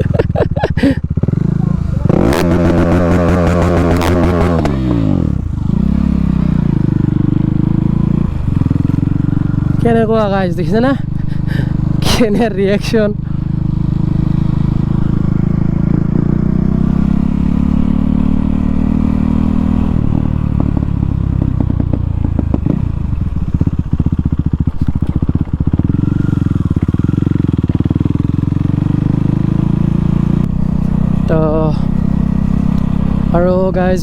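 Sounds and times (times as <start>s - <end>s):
loud unmuffled motorcycle engine: 0.0s - 34.0s.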